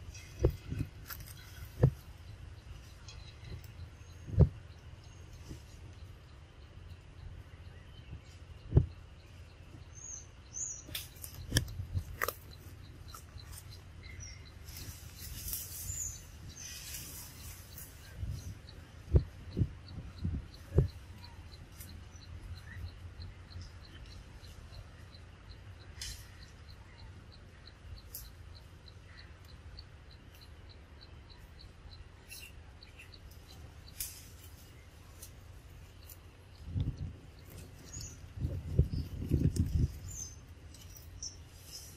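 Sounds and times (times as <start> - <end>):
birds chirping: 0.0 - 41.9
sharp clicks: 0.1 - 41.4.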